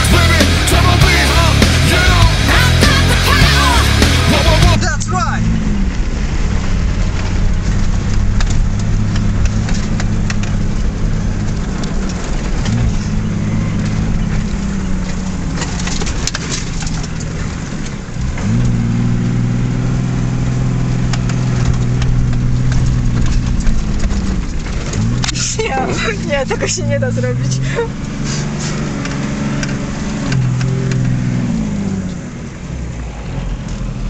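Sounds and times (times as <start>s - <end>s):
diesel engine running under load: 0.0s - 34.0s.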